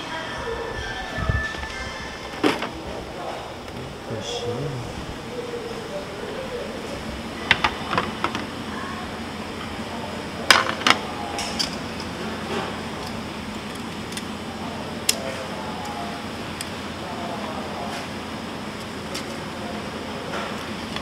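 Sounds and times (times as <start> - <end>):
faint voices: 0.0 - 21.0
restaurant hum: 0.0 - 21.0.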